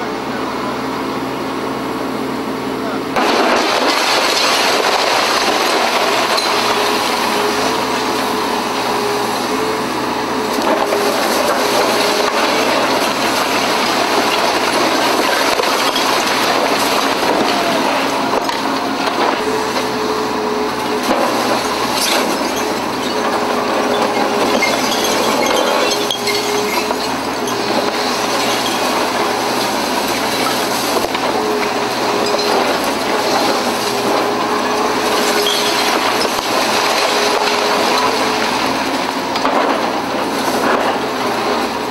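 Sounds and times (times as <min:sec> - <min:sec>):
demolition excavator machine noise: 0:00.0 - 0:41.9
concrete crunching and debris falling: 0:03.2 - 0:41.9.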